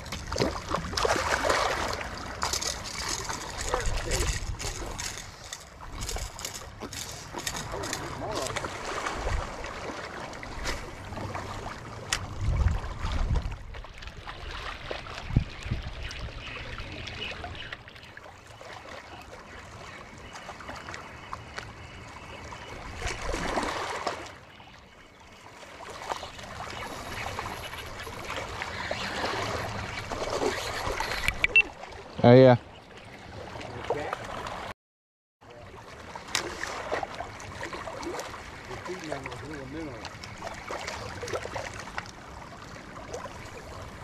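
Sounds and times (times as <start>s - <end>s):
water trickling and rushing: 0.0s - 34.7s, 35.5s - 44.0s.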